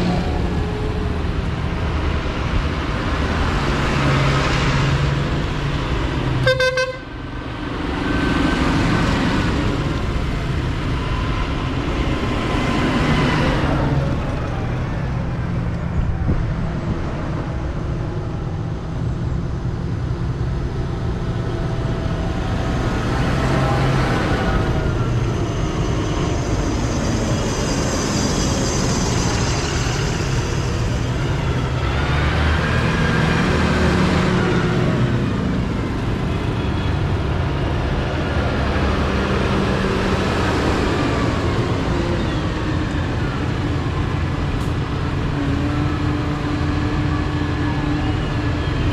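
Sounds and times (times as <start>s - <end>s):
tractors driving past: 0.0s - 48.9s.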